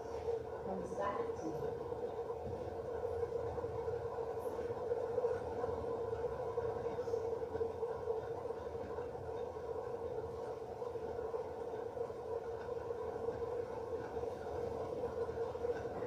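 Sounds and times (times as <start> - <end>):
steady hum on one tone: 0.0 - 16.0.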